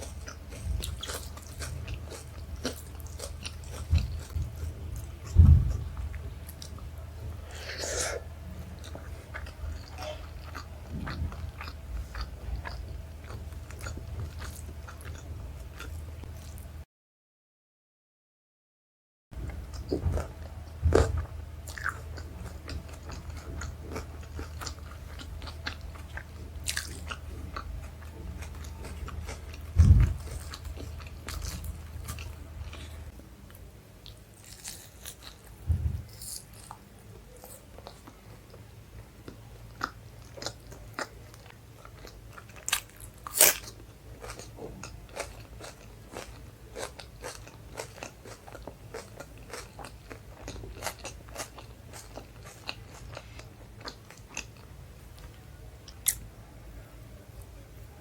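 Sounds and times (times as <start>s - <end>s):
person chewing food: 0.0s - 16.7s, 19.5s - 38.6s, 39.2s - 56.3s.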